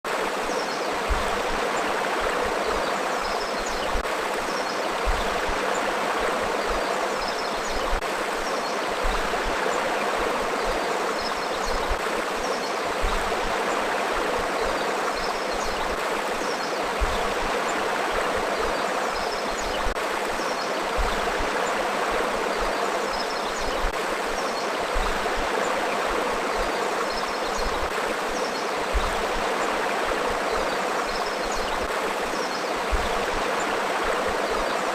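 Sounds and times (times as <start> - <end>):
river rushing over rocks: 0.1 - 34.9.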